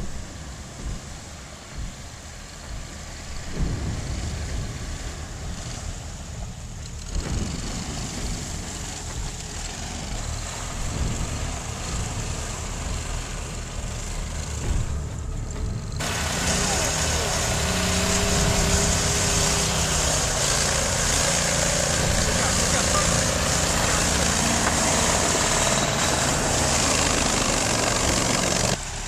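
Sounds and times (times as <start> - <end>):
atv engine running hard: 0.0 - 29.0
water rushing over engine: 0.0 - 29.0
water splashing: 0.0 - 29.0.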